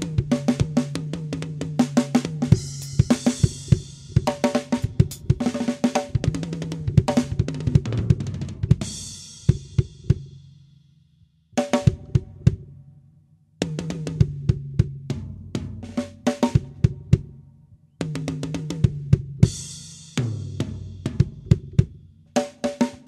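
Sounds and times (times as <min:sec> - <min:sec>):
drum kit playing: 0:00.0 - 0:10.3, 0:13.6 - 0:17.3, 0:18.1 - 0:23.0.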